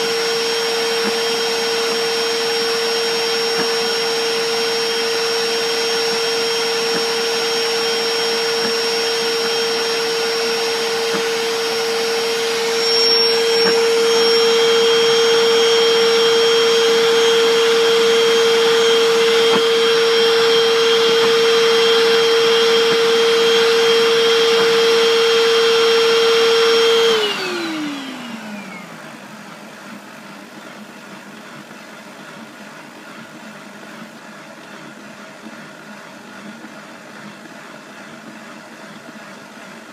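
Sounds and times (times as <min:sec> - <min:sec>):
carpet cleaner motor whine: 0:00.0 - 0:39.9.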